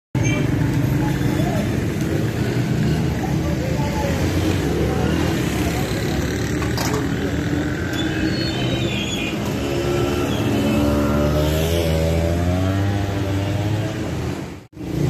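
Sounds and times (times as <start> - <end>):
vehicle engines running: 0.2 - 15.0.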